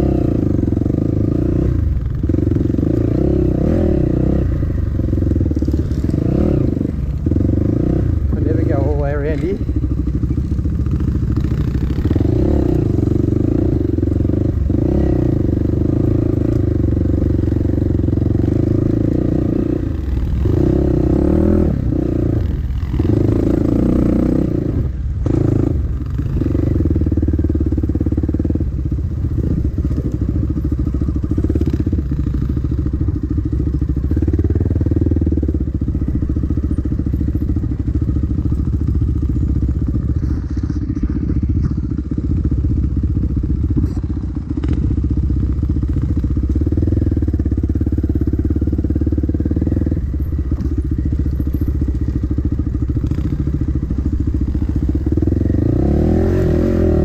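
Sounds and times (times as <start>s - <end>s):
dirt bike engine running: 0.0s - 57.0s
clatter: 5.0s - 20.9s, 25.2s - 55.8s.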